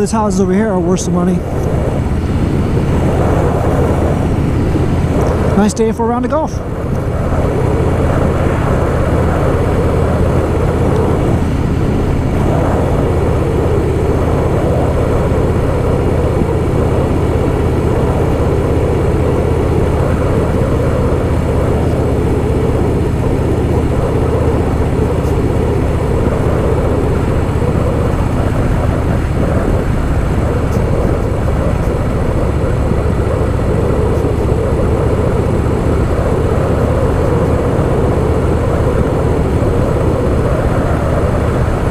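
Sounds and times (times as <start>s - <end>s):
motorcycle engine cruising: 0.0s - 41.9s
road and wind noise: 0.0s - 41.9s.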